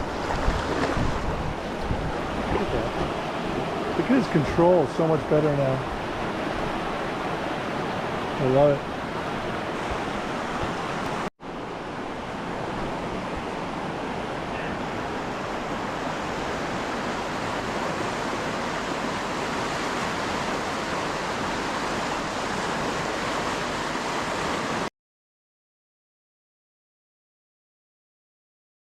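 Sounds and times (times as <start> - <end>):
whitewater rapid rushing: 0.0 - 24.9.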